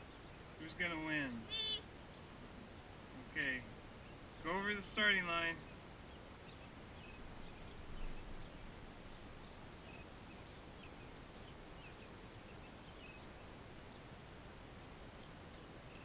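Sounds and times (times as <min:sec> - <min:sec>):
faint bird chirps: 0:00.0 - 0:14.2, 0:15.1 - 0:16.0.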